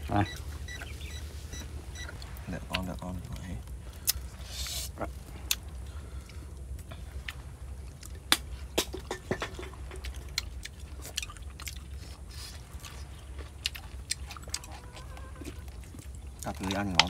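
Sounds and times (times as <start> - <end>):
low steady rumble: 0.0 - 17.0
chewing: 1.6 - 8.7, 9.5 - 17.0.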